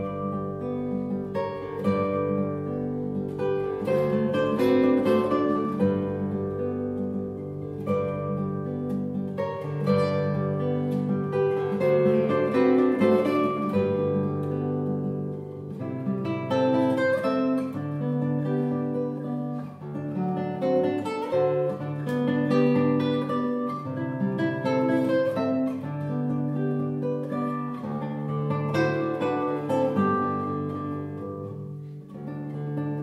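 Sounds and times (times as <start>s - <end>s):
fingerpicked classical guitar: 0.0s - 33.0s.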